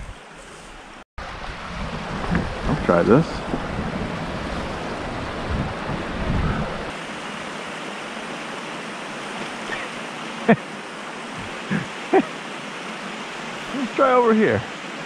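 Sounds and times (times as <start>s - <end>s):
stream water rushing: 0.2s - 15.0s.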